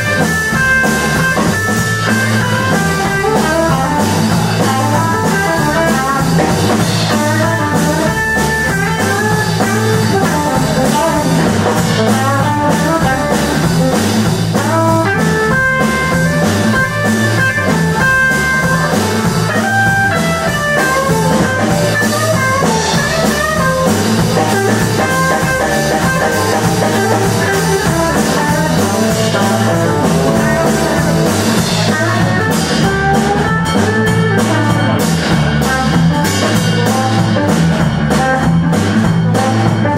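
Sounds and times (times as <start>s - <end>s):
bass: 0.0s - 39.9s
drum kit: 0.0s - 39.9s
guitar melodic line: 0.0s - 39.9s.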